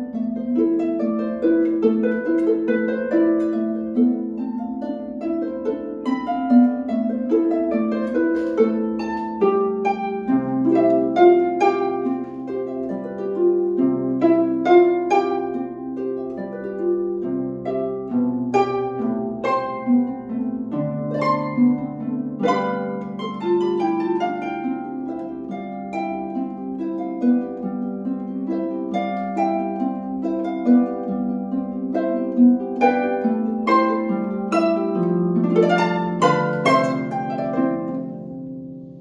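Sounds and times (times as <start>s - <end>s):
harp melody: 0.0s - 39.0s.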